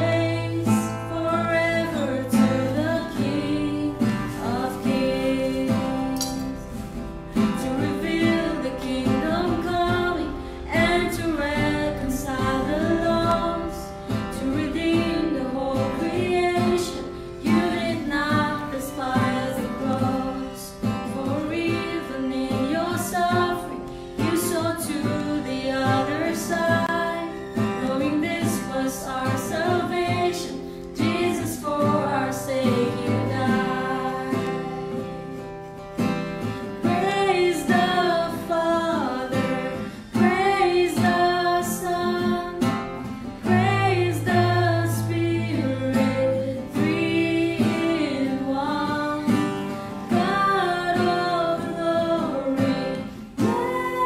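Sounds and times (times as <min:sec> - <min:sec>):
women singing together: 0:00.0 - 0:35.4, 0:36.4 - 0:54.0
strummed acoustic guitar: 0:00.0 - 0:54.0.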